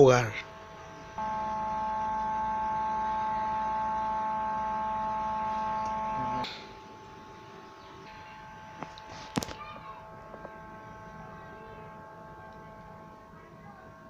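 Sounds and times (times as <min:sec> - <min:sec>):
fogger electric hum and buzz: 0:00.0 - 0:14.0.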